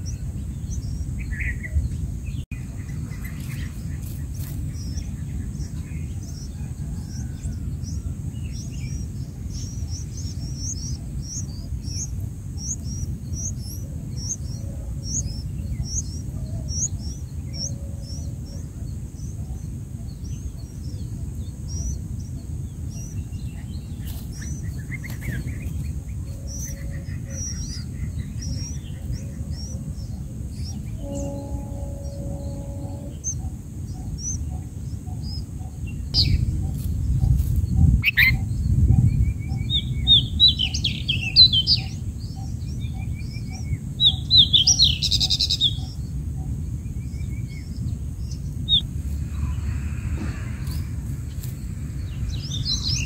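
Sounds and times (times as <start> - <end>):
low background rumble: 0.0 - 53.0
small birds chirping: 0.0 - 53.0.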